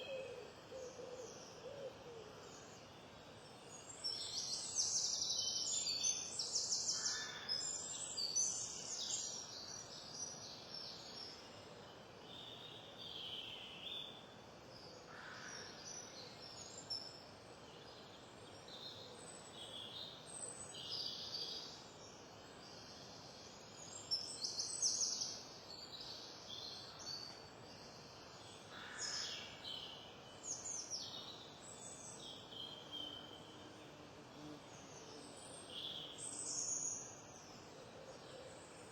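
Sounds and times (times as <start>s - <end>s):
songbirds singing: 0.0s - 38.9s
steady background hiss: 0.0s - 38.9s.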